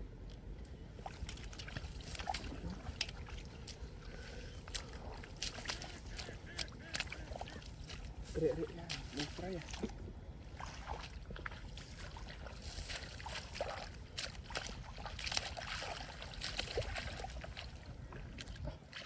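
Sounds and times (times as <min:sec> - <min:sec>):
steady low rumble: 0:00.0 - 0:19.0
water splashing and sloshing: 0:00.1 - 0:19.0.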